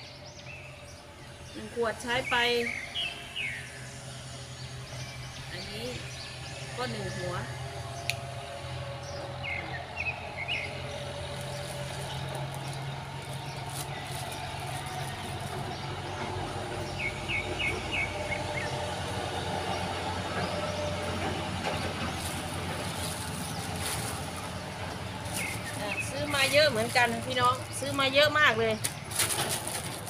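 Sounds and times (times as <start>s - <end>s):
bird chirping: 0.0s - 29.0s
outdoor noise with low hum: 0.0s - 30.0s.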